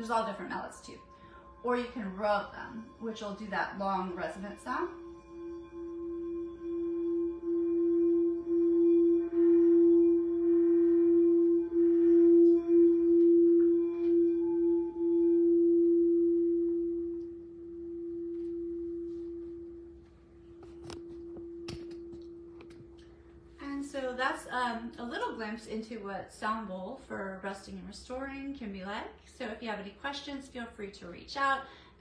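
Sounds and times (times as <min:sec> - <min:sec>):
singing bowl tone: 0:00.0 - 0:28.6.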